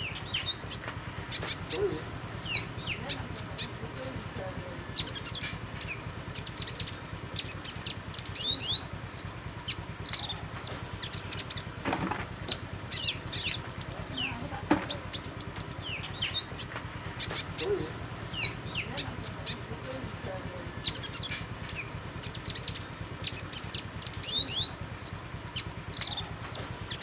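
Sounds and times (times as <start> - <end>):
songbird chirping: 0.0 - 27.0
steady low hum: 0.0 - 27.0.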